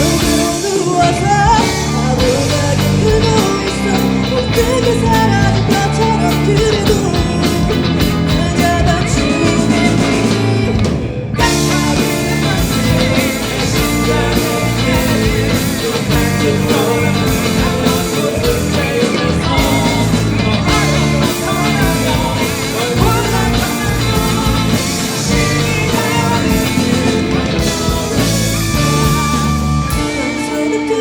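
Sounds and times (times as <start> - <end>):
bass guitar: 0.0 - 31.0
drums: 0.0 - 31.0
electric guitars: 0.0 - 31.0
keyboard: 0.0 - 31.0.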